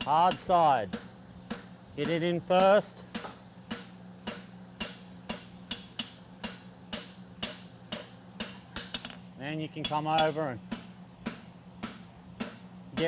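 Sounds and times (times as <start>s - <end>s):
hammer striking metal on anvil: 0.0s - 9.1s, 9.8s - 13.0s.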